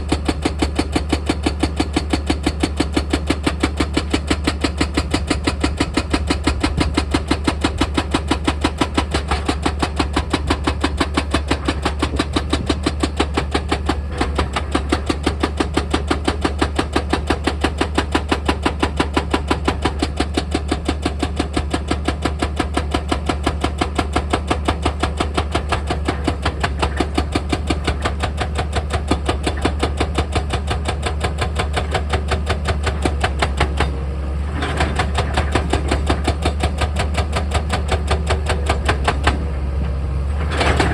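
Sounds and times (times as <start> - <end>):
rock drill hammering: 0.0 - 34.0, 34.6 - 39.4.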